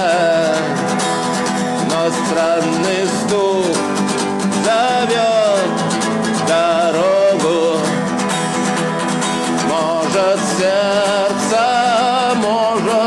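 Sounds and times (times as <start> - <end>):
person singing: 0.0 - 8.2, 9.4 - 13.0
acoustic guitar: 0.0 - 13.0.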